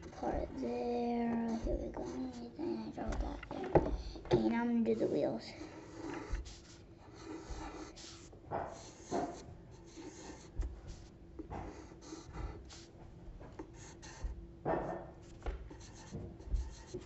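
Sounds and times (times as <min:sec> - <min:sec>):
pencil drawing on paper: 0:00.0 - 0:12.9, 0:13.6 - 0:14.4, 0:15.2 - 0:17.0.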